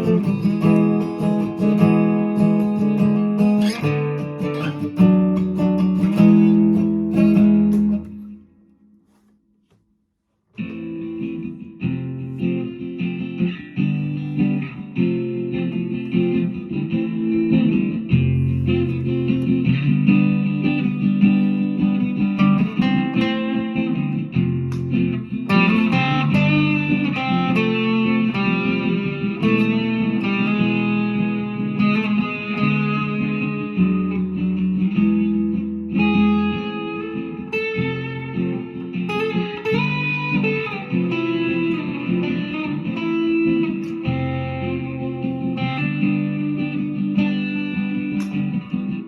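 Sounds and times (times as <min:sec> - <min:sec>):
acoustic guitar playing: 0:00.0 - 0:49.0.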